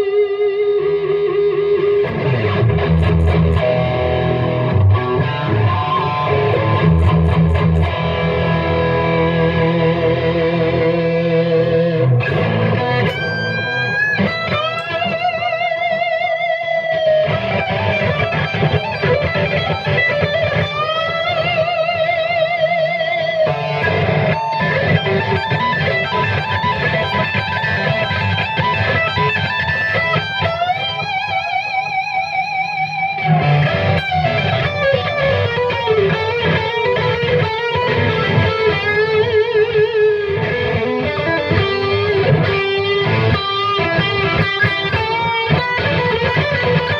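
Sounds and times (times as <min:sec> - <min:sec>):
electric guitar lead licks: 0:00.0 - 0:46.9.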